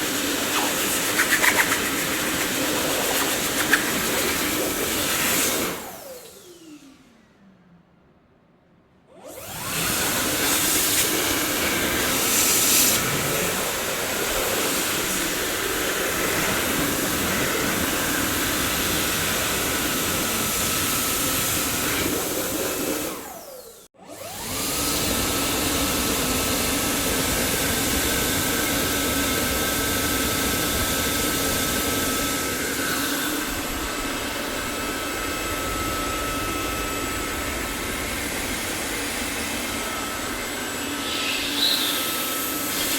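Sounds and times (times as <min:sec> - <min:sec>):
vacuum cleaner running: 0:00.0 - 0:07.4, 0:09.1 - 0:42.9.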